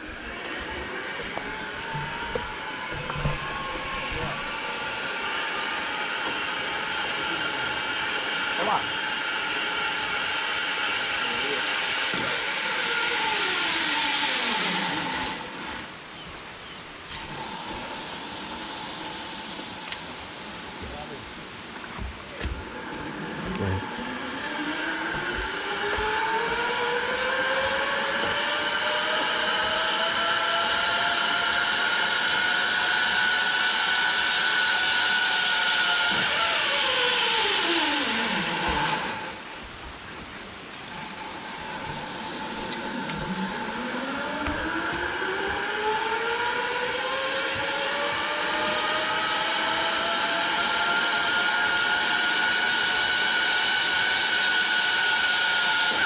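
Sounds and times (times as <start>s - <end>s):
zipline trolley whirring on cable: 0.0s - 56.0s.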